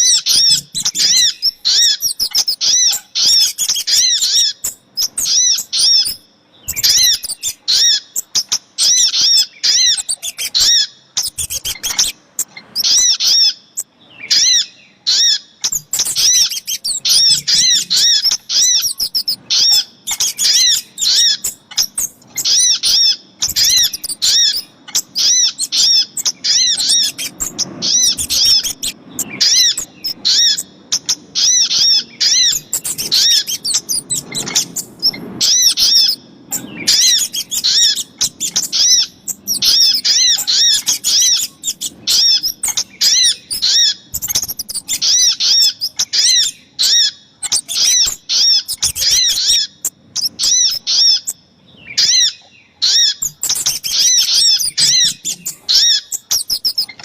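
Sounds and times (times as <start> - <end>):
small birds chirping rapidly: 0.0 - 57.0.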